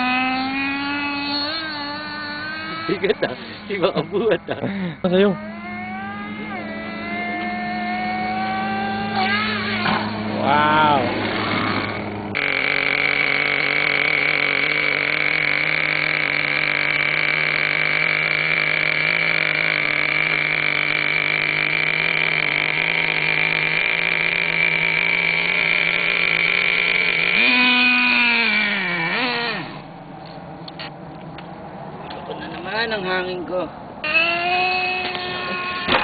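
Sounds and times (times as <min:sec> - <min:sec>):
small nitro engine buzzing: 0:00.0 - 0:30.9, 0:34.0 - 0:36.0.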